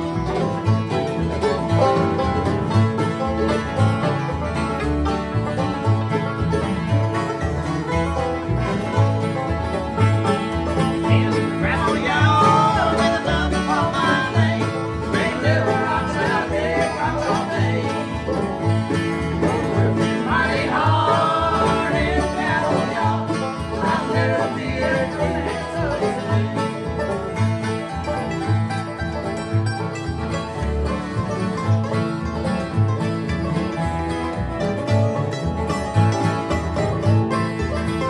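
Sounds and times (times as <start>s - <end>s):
bluegrass jam: 0.0s - 38.0s
upright bass plucking: 0.0s - 38.0s.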